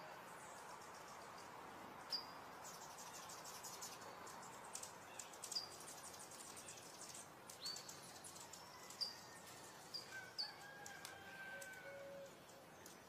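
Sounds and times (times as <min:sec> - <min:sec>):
birds chirping: 0:00.0 - 0:13.0
quiet outdoor hiss: 0:00.0 - 0:13.0.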